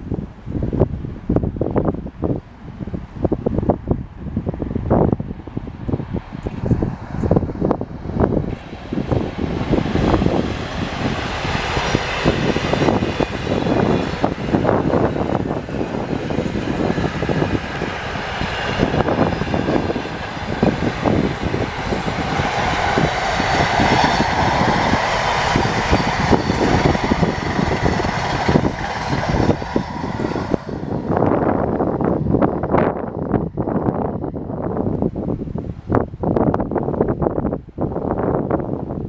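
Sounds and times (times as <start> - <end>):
train passing at speed: 0.0 - 39.0.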